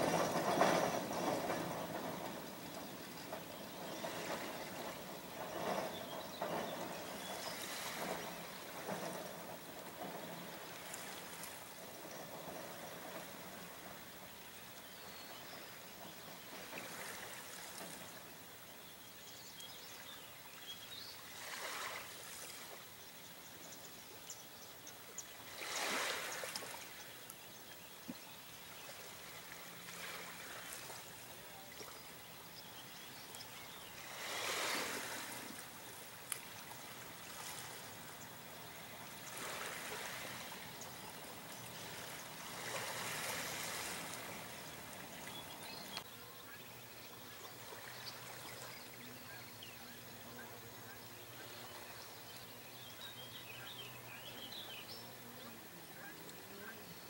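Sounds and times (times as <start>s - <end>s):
lake water lapping against shore: 0.0s - 57.0s.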